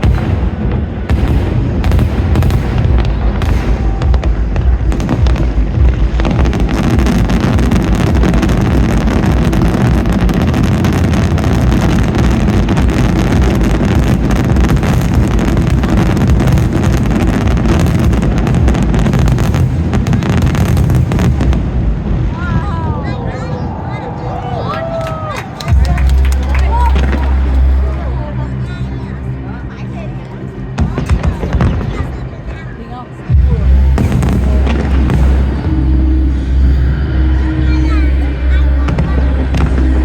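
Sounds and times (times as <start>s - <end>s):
fireworks booming and crackling: 0.0s - 23.7s, 25.6s - 28.1s, 30.8s - 32.4s, 33.3s - 40.0s.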